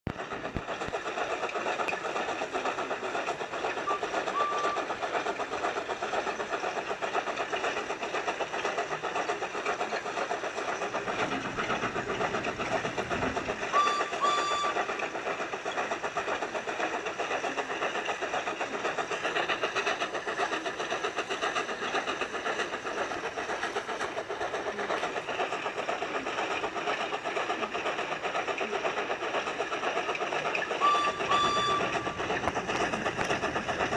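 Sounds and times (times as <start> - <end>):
train rattling rumble: 0.1 - 33.9.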